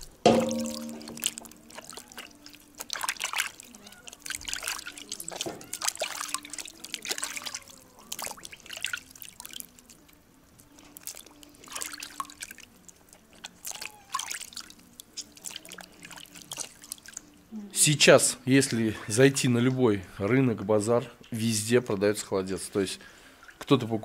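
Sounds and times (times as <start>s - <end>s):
water trickling and dripping: 0.0s - 24.0s.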